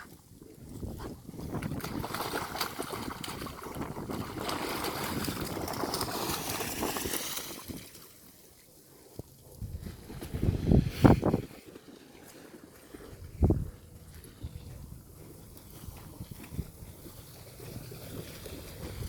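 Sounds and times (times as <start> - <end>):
dog paddling and splashing water: 0.0 - 19.0.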